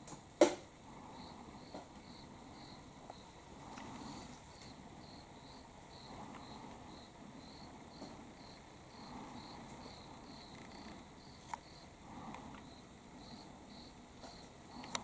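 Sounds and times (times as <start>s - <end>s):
cricket chirping: 0.9s - 15.0s.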